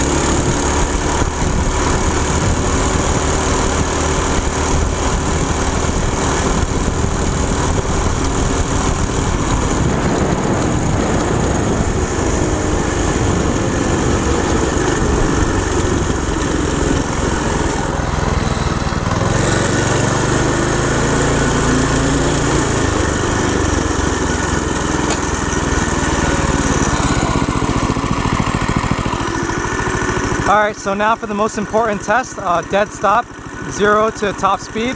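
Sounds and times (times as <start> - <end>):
go-kart engine running: 0.0 - 34.9.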